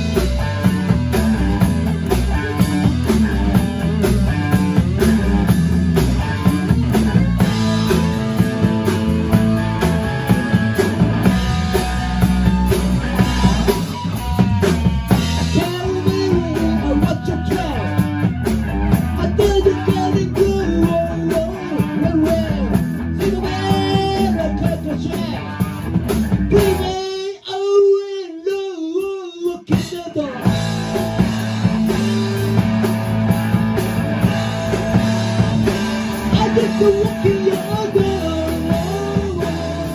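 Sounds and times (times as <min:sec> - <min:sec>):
live rock band playing: 0:00.0 - 0:27.4, 0:29.0 - 0:39.9
wavering electric guitar lead: 0:00.0 - 0:27.4, 0:30.0 - 0:39.9.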